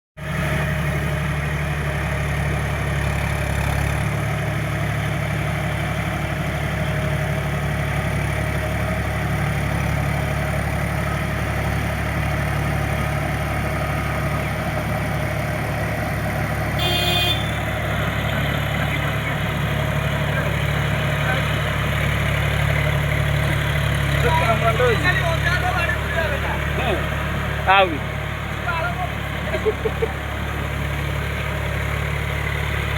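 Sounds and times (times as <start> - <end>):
tractor diesel engine idling: 0.2 - 32.9.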